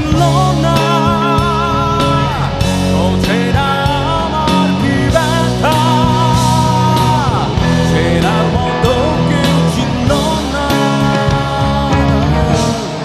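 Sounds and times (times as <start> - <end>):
bass guitar: 0.0 - 13.0
drums: 0.0 - 13.0
electric guitars: 0.0 - 13.0.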